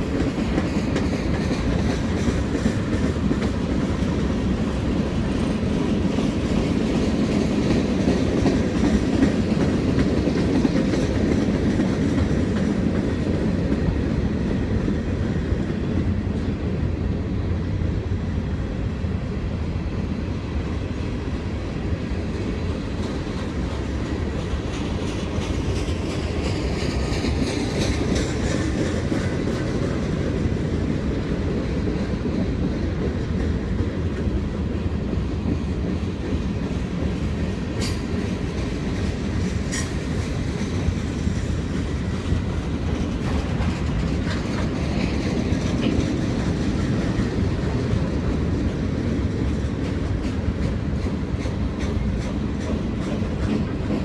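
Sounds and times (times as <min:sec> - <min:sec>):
wheels clacking over rail joints: 0:00.0 - 0:16.8, 0:21.8 - 0:54.0
train rumbling on rails: 0:00.0 - 0:54.0.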